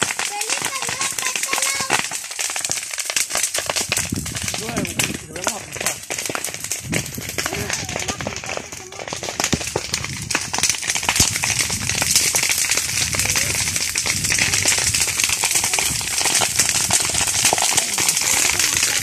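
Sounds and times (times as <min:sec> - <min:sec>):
brush fire crackling: 0:00.0 - 0:19.0.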